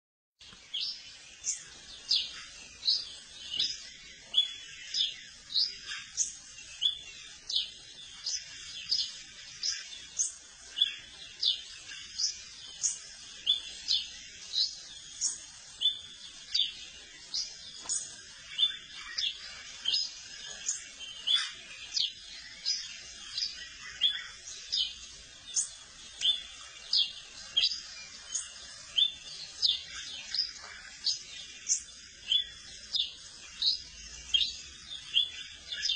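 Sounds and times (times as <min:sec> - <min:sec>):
faint bird chirps: 0:00.4 - 0:35.9.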